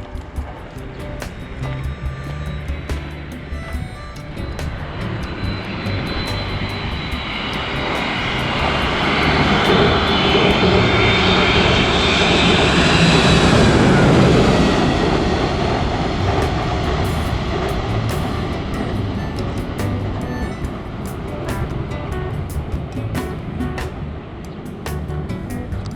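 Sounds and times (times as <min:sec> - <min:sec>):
jet airliner passing overhead: 0:00.0 - 0:25.9.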